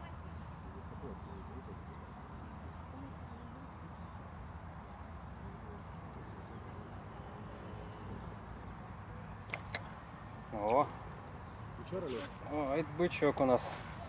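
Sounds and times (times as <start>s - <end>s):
bird chirping: 0.0s - 14.0s
low outdoor background noise: 0.0s - 14.0s.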